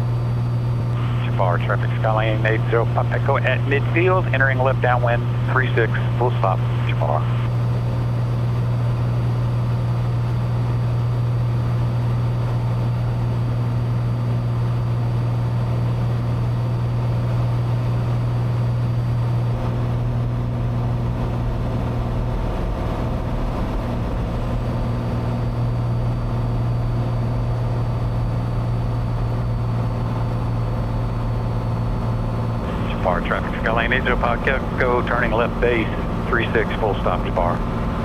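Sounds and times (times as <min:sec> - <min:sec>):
light aircraft engine droning: 0:00.0 - 0:38.0.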